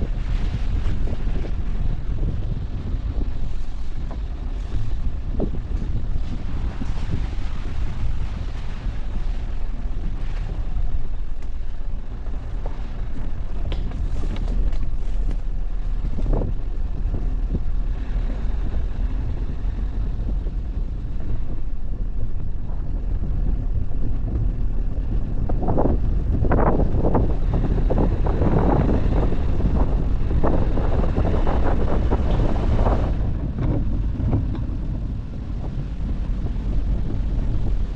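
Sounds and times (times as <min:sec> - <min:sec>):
engine and tyres rumbling: 0:00.0 - 0:37.9
wind buffeting microphone: 0:00.0 - 0:37.9.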